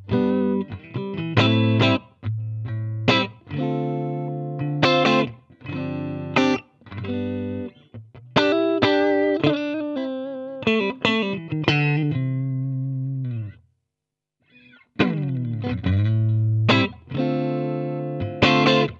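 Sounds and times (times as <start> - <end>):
electric guitar chords: 0.0 - 13.6, 15.0 - 18.9.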